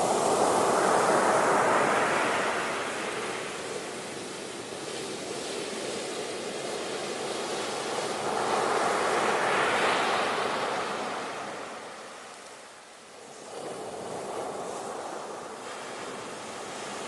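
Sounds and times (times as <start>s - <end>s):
ocean waves washing onto shore: 0.0s - 17.0s.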